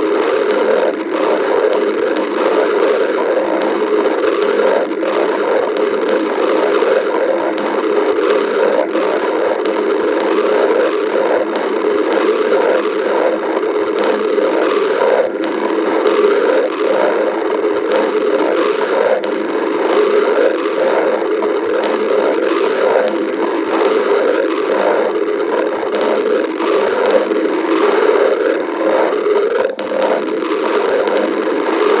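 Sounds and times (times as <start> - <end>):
stomach growling: 0.0 - 32.0.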